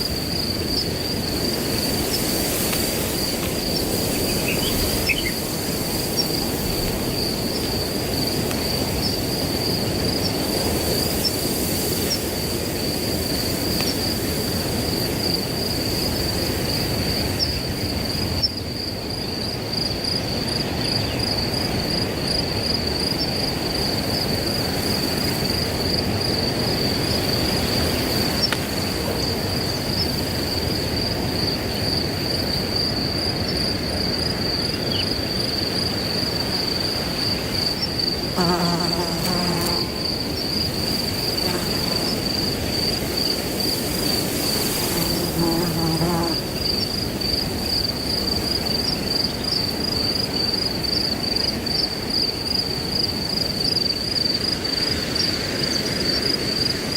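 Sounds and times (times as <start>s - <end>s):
crickets trilling: 0.0s - 56.9s
wind rustling through grass: 0.0s - 56.9s.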